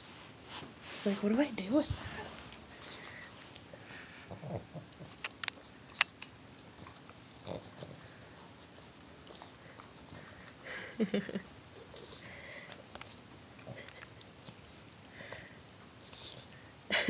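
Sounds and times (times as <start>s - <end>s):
dog sniffing and snuffling: 0.5s - 16.7s.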